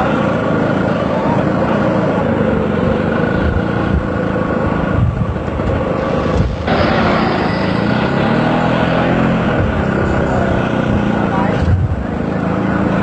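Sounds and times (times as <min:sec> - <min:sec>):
road noise: 0:00.0 - 0:13.0
vehicle engines running: 0:00.0 - 0:13.0.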